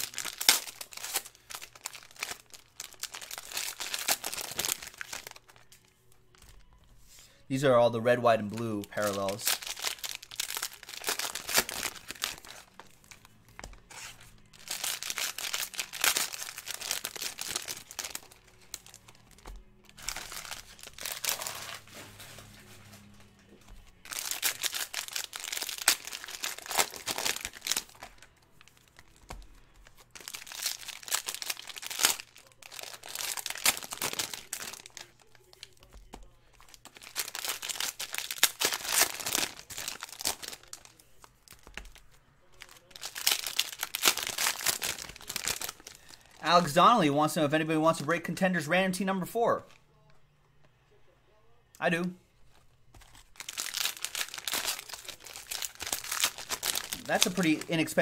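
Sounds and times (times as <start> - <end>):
card pack wrappers crinkling: 0.0 - 47.0, 52.5 - 58.0.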